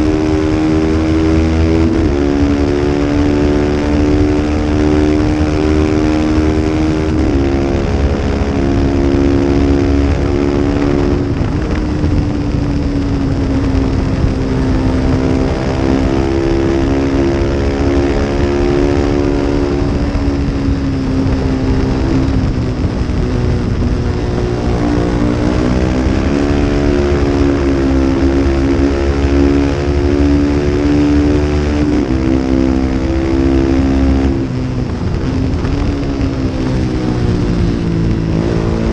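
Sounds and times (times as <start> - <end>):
heavy wind rumble: 0.0 - 38.9
race motorcycle engine at high revs: 0.0 - 38.9.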